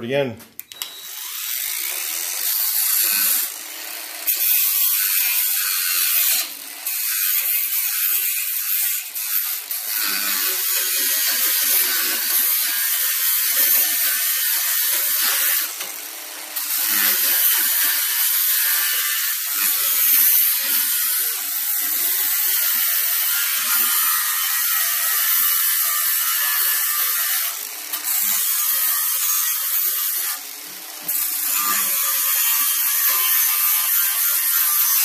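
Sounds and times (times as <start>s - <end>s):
angle grinder grinding metal: 0.1s - 35.0s.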